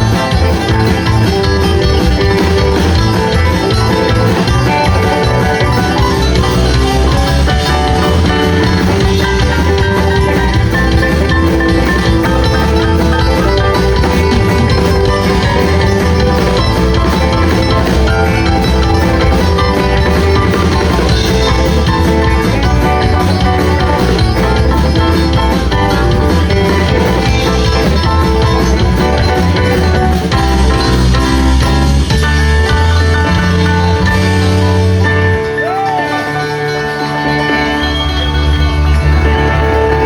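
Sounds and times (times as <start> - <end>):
electric guitar: 0.0 - 40.0
live band playing: 0.0 - 40.0.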